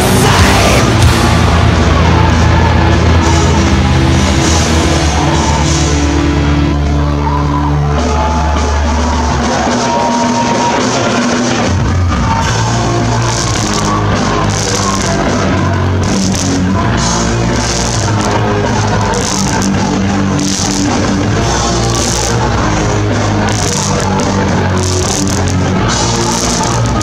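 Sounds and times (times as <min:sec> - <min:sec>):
heavy bass notes: 0:00.0 - 0:27.0
live punk band playing: 0:00.0 - 0:27.0.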